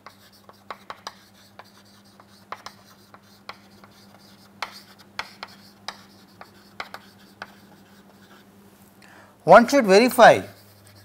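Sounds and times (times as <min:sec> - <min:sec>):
chalk tapping and scratching: 0:00.0 - 0:08.5, 0:10.1 - 0:11.0.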